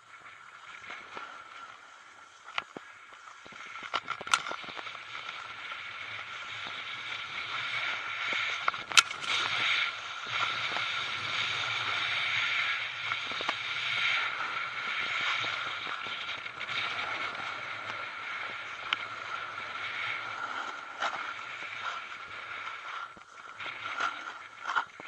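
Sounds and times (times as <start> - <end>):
snowboard scraping over snow: 0.0 - 25.0
wind on microphone: 0.0 - 25.0.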